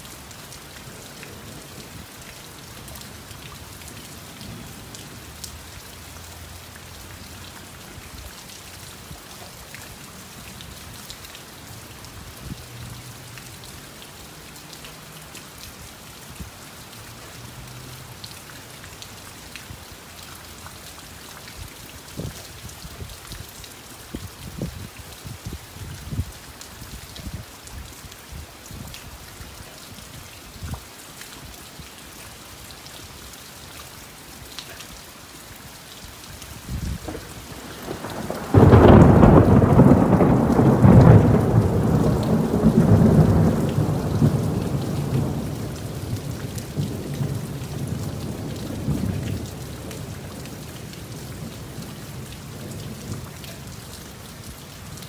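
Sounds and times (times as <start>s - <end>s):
heavy raindrops hitting close: 0.0s - 55.0s
steady rain falling: 0.0s - 55.0s.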